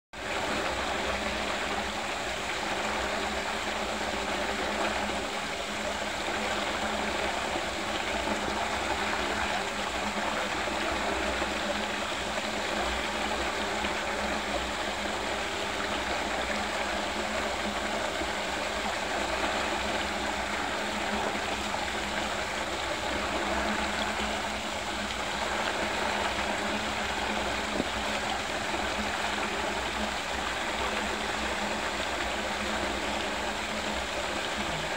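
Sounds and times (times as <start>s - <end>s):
faint steady hum: 0.2s - 34.9s
water rushing down a drain: 0.2s - 34.9s.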